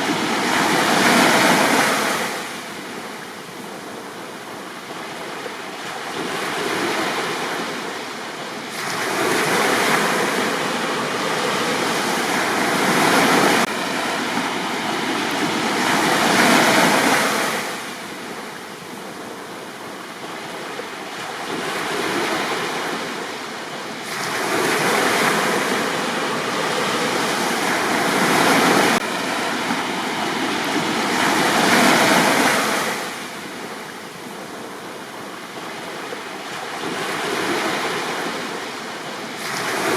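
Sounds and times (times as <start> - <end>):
sea waves surging on beach: 0.0 - 39.9.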